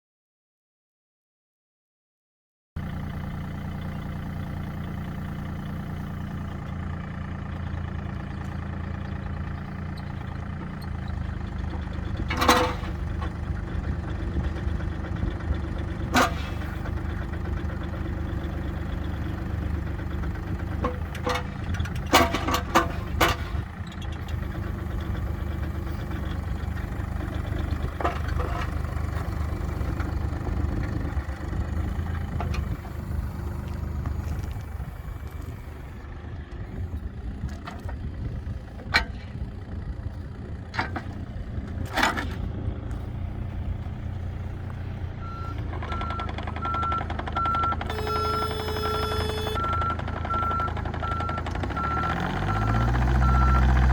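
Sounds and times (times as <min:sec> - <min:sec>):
excavator diesel engine idling: 0:02.8 - 0:53.9.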